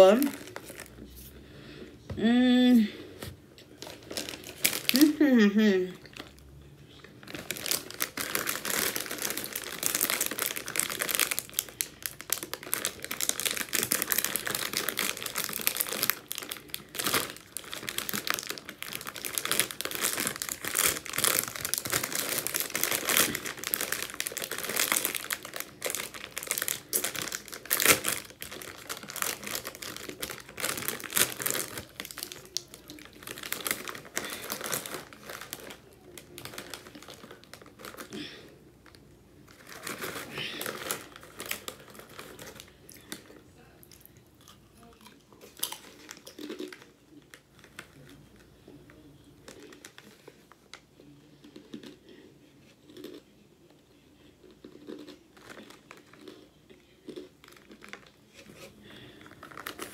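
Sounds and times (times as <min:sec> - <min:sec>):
chip bag crinkling: 0:00.0 - 0:01.2, 0:03.7 - 0:53.2, 0:54.4 - 0:59.9.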